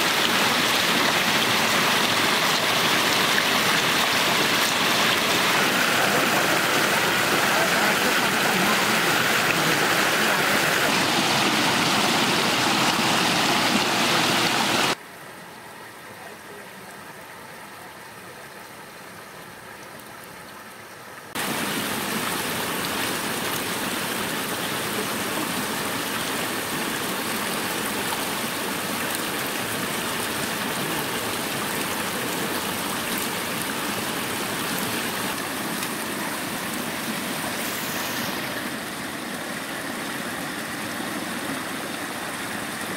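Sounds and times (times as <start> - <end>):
stream water rushing and splashing: 0.0 - 42.9.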